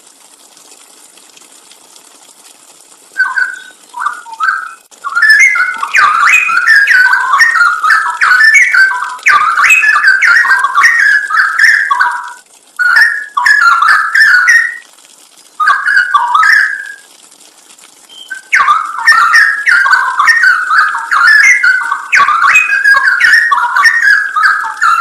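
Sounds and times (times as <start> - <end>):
bird whistling song phrases: 3.2 - 14.8, 15.6 - 17.1, 18.1 - 25.0.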